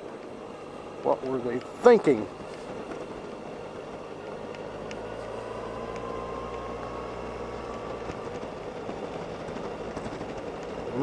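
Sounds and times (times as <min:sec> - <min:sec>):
faint rising whine: 0:00.0 - 0:11.0
scooter engine running: 0:00.0 - 0:11.0.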